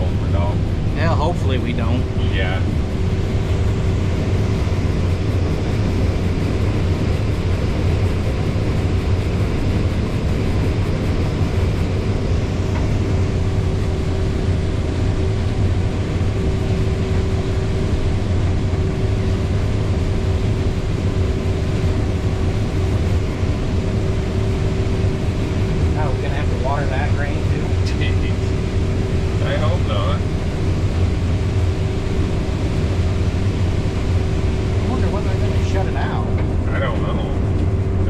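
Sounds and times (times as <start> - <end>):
combine harvester droning: 0.0 - 38.0.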